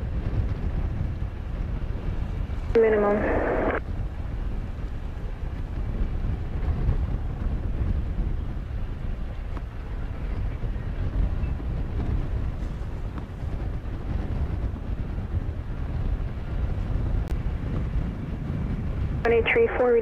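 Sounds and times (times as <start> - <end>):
jet engines rumbling: 0.0 - 20.0
wind buffeting microphone: 0.0 - 20.0.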